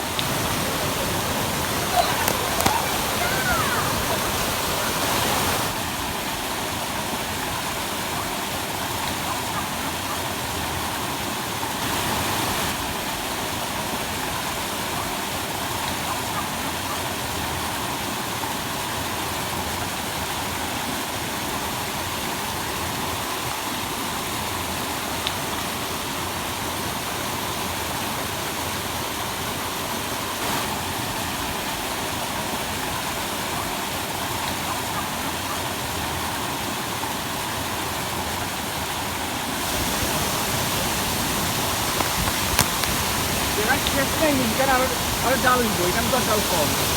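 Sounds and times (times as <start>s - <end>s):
waterfall rushing water: 0.0s - 46.9s.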